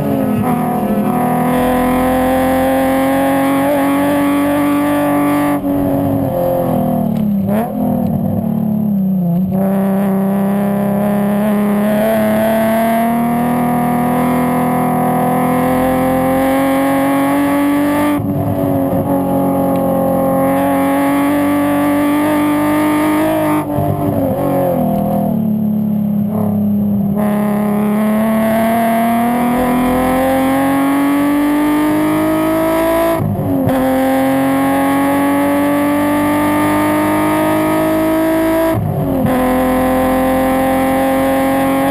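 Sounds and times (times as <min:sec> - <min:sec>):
car engine and exhaust revving: 0:00.0 - 0:41.9.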